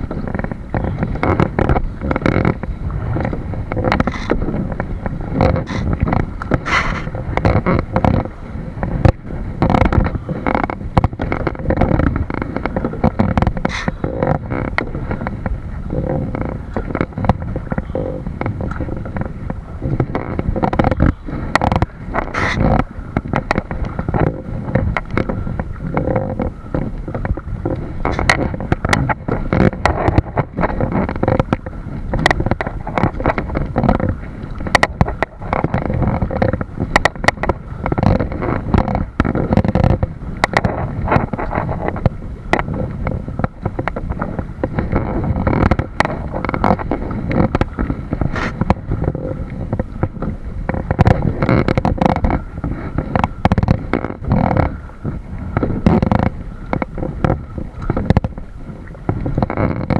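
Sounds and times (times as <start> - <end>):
water rumbling against hull: 0.0 - 59.9
sharp knocks and clicks: 0.2 - 48.9, 55.6 - 58.4.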